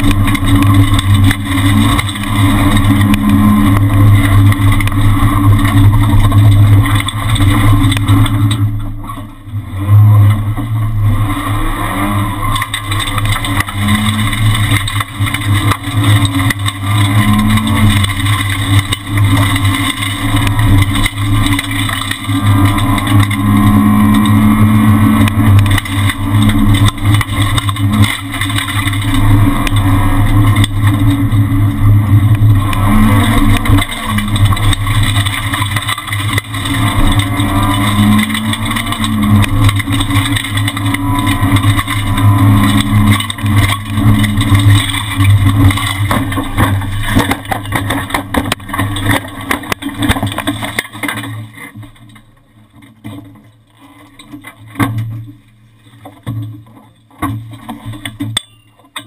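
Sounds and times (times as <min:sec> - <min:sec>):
rally car engine at speed: 0:00.0 - 0:59.0.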